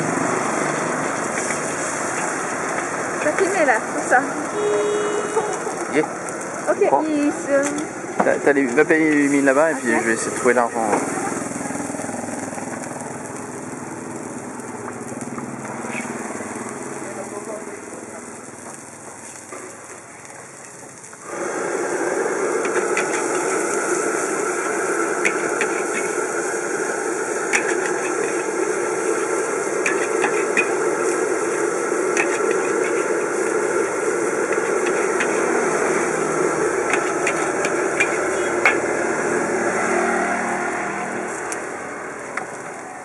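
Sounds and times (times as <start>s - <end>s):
vegetables sizzling in wok: 0.0s - 43.0s.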